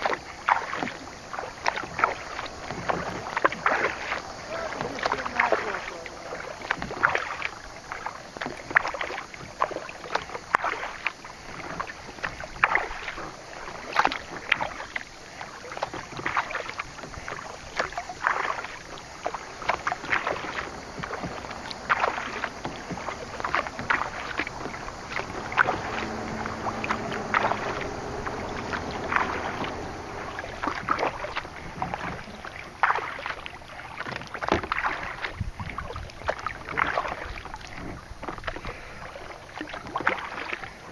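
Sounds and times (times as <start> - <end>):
paddle splashing into water: 0.0 - 40.9
steady wash of water: 0.0 - 40.9.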